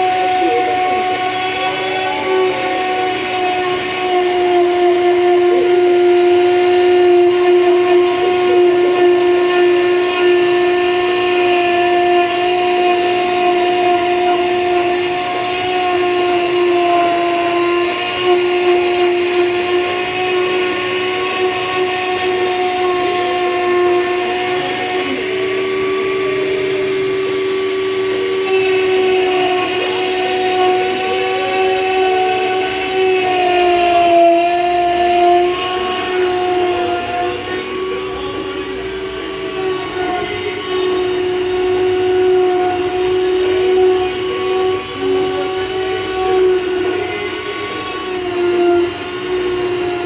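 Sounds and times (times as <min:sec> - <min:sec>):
router motor whining: 0:00.0 - 0:50.0.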